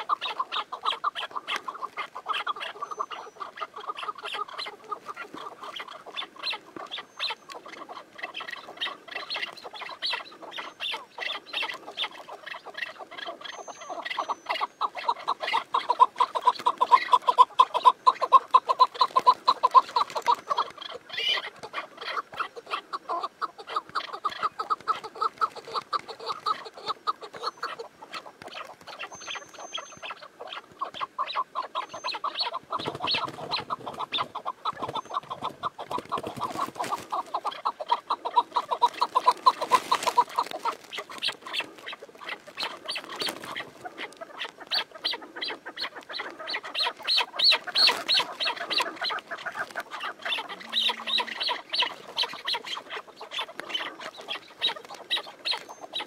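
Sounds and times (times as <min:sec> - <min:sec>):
partridge calling: 0:00.0 - 0:56.0.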